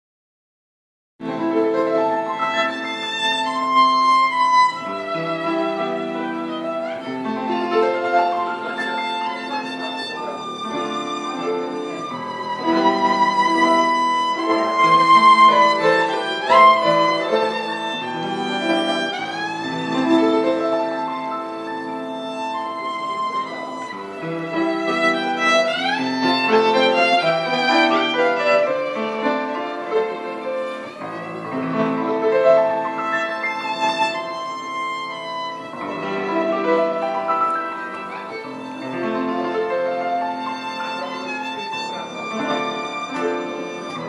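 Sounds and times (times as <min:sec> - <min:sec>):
violin playing lively melody: 0:01.2 - 0:44.0.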